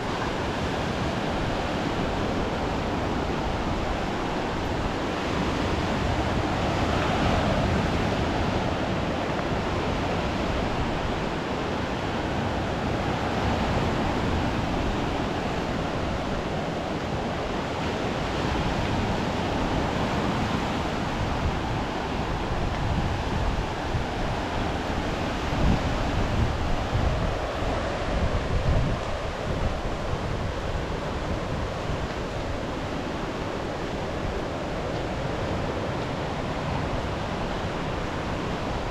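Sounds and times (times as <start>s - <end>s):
steady rushing outdoor noise: 0.0s - 38.9s
wind buffeting microphone: 0.0s - 38.9s.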